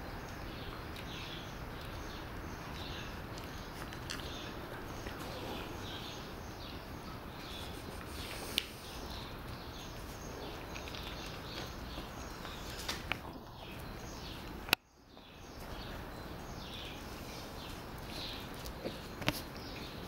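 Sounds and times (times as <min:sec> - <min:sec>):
high chirping calls: 0:00.0 - 0:20.0
outdoor background noise: 0:00.0 - 0:20.0.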